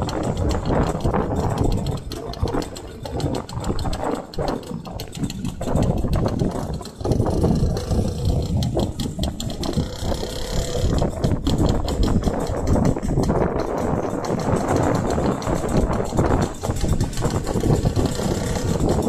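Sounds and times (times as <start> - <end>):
motorcycle engines chugging: 0.0 - 19.0.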